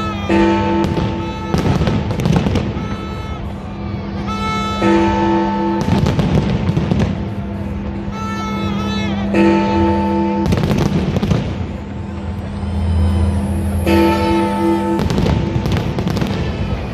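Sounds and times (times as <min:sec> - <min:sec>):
fireworks bursting: 0:00.1 - 0:03.6, 0:04.2 - 0:08.6, 0:10.3 - 0:16.9.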